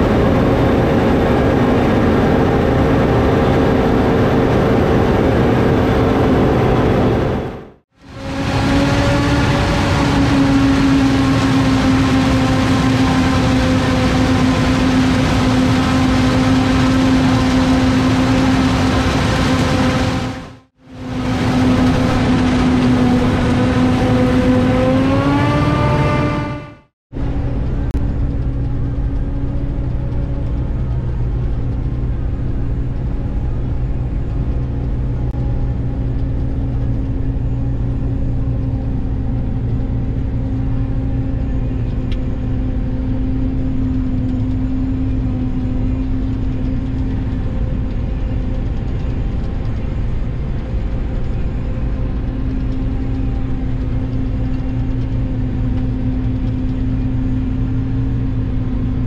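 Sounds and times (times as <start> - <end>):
harvester engine drone: 0.0 - 59.0.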